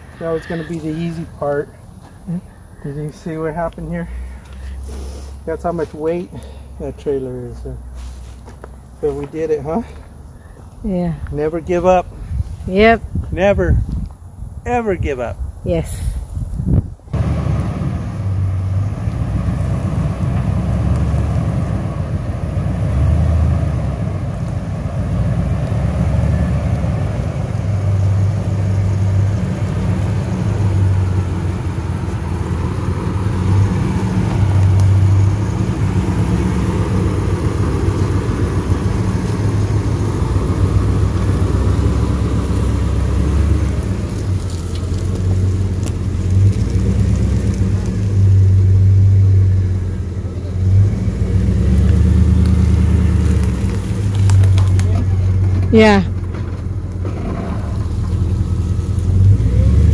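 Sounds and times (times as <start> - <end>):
pickup truck engine idling: 0.0 - 11.5, 17.2 - 59.9.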